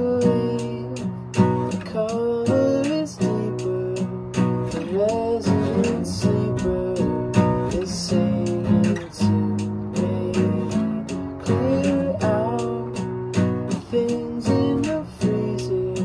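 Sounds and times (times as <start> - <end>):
classical guitar strummed: 0.0 - 16.0.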